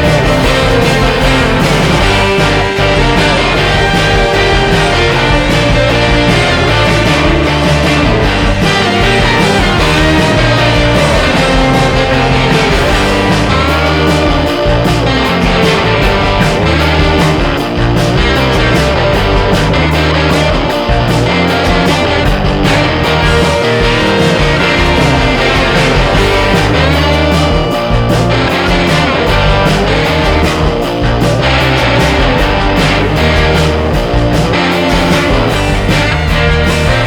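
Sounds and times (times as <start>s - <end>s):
electric guitar: 0.0s - 37.0s
rock music: 0.0s - 37.0s.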